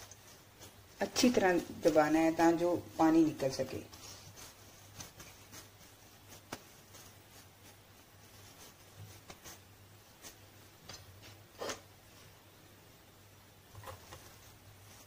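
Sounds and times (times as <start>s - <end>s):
soft squishes of wet bread: 0.0s - 12.6s, 13.6s - 15.0s
low steady hum: 0.0s - 15.0s.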